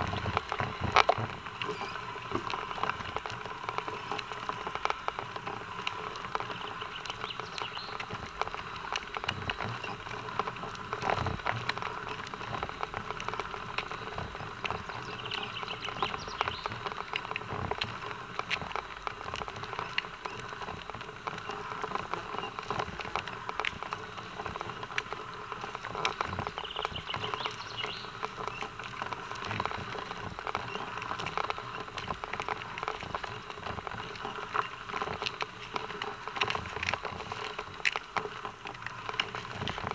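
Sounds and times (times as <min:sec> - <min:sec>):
hooves clopping on asphalt: 0:00.0 - 0:39.9.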